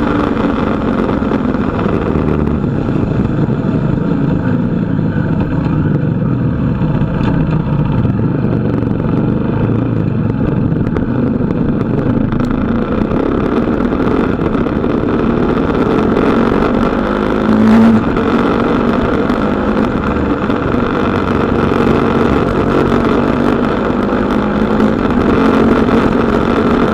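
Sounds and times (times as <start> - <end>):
motorcycle engine running: 0.0 - 26.9
road and wind noise: 0.0 - 26.9.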